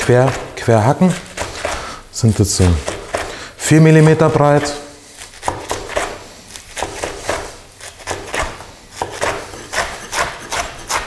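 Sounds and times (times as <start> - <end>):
knife chopping on plastic board: 0.0 - 1.9, 2.5 - 3.4, 4.0 - 11.0.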